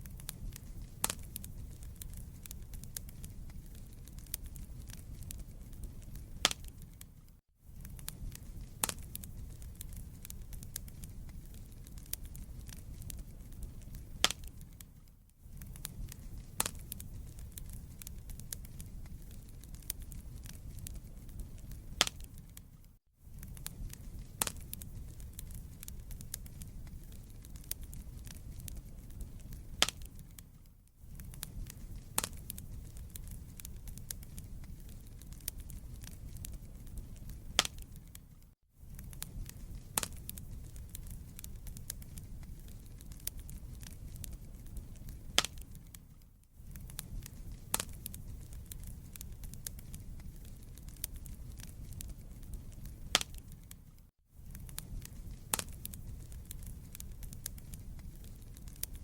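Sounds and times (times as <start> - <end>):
burning logs crackling and popping: 0.0 - 59.0
low rumble of flames: 0.0 - 59.0.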